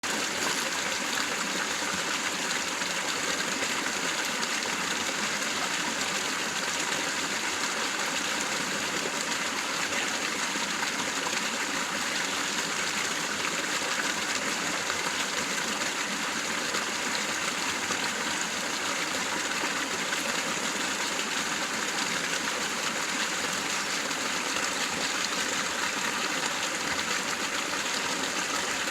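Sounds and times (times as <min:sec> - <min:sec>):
river water flowing: 0:00.0 - 0:28.9.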